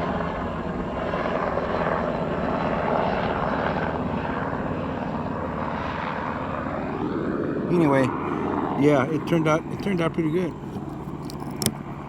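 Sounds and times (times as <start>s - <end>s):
helicopter rotor and engine drone: 0.0s - 12.0s.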